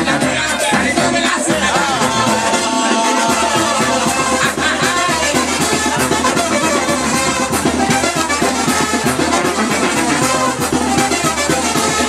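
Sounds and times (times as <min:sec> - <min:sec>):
dance music with brass and drums: 0:00.0 - 0:12.0.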